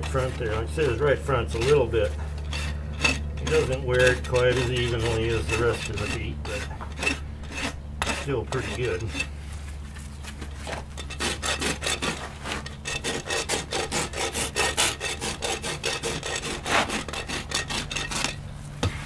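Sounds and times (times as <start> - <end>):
hoof rasp filing hoof: 0.0 - 19.0.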